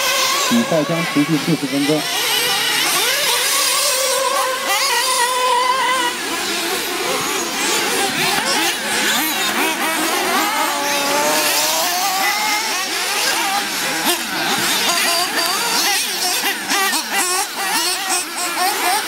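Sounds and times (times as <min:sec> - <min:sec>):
rc buggy engines revving: 0:00.0 - 0:19.0.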